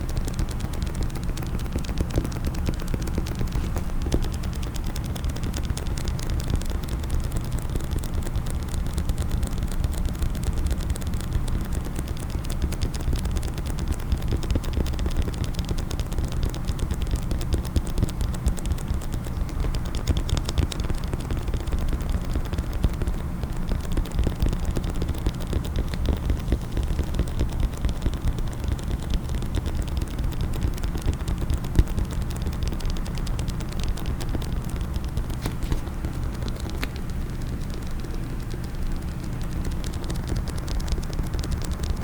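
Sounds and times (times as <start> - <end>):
rapid tapping and clicking on case: 0.0 - 42.0.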